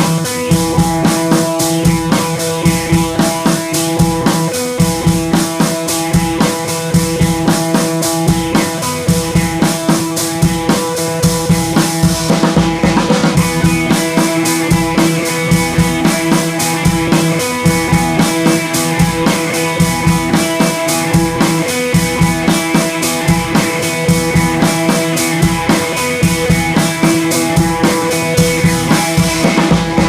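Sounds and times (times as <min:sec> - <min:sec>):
background music with drum beat: 0:00.0 - 0:30.0.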